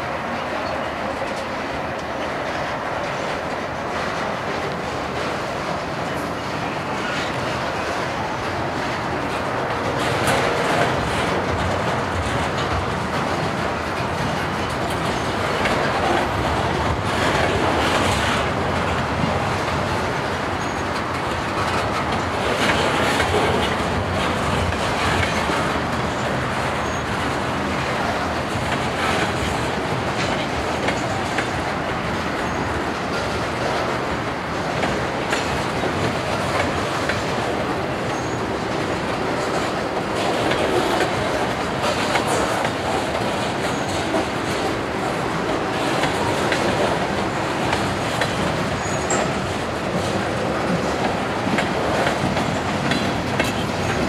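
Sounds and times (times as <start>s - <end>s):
freight train wheels rumbling: 0.0s - 54.0s
wheels clacking over rail joints: 0.4s - 54.0s.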